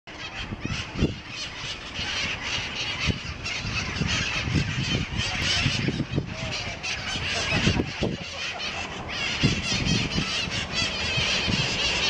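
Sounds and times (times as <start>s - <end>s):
parrots squawking and screeching: 0.1s - 12.0s.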